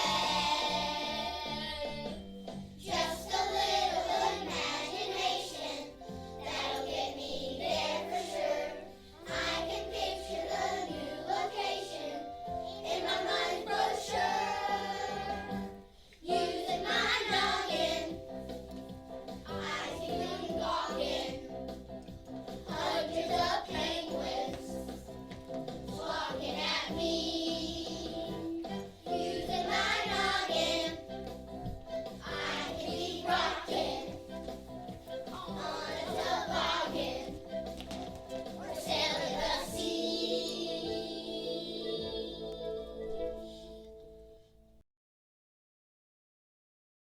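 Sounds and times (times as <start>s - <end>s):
children singing: 0.0s - 18.2s, 19.5s - 21.6s, 22.6s - 25.2s, 25.8s - 37.8s, 38.4s - 43.8s
musical accompaniment: 0.0s - 44.8s.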